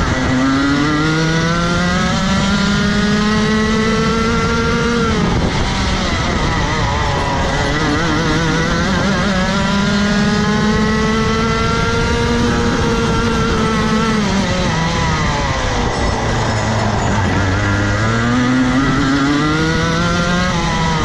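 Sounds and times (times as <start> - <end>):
kart engine at full throttle: 0.0 - 21.0.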